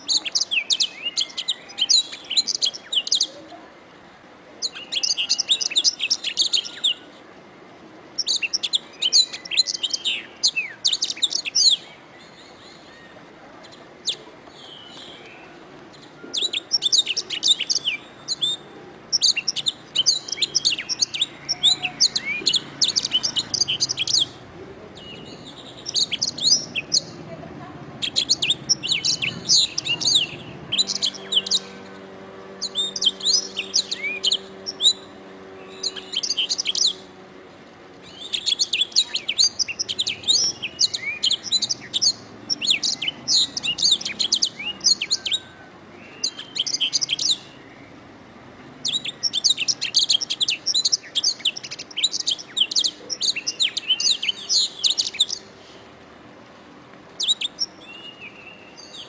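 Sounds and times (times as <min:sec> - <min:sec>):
canary trilling: 0:00.0 - 0:03.4, 0:04.6 - 0:07.1, 0:08.2 - 0:11.8, 0:14.0 - 0:27.2, 0:27.9 - 0:37.2, 0:38.1 - 0:47.6, 0:48.8 - 0:55.5, 0:57.2 - 0:58.9.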